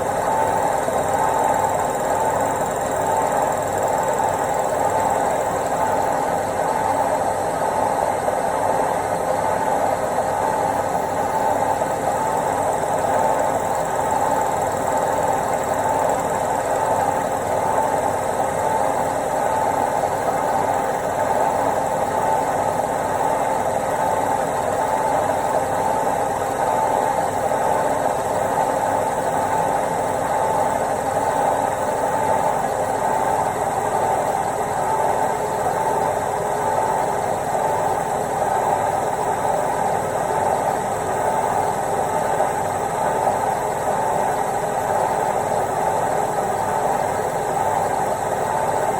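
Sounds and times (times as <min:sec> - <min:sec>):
washing machine running: 0:00.0 - 0:48.9.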